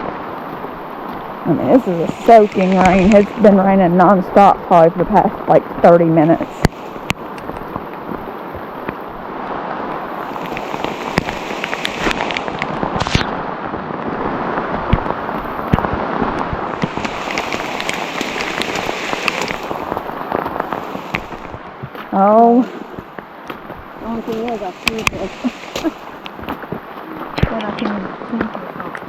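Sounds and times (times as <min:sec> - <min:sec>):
raindrops tapping close by: 0:00.0 - 0:29.0
steady rain: 0:00.0 - 0:29.0.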